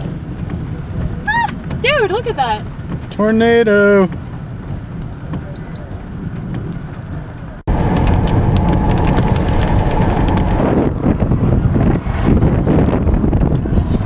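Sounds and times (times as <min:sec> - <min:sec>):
rain crackling: 0:00.0 - 0:11.6
low steady rumble: 0:00.0 - 0:14.0
wind buffeting microphone: 0:00.0 - 0:14.0.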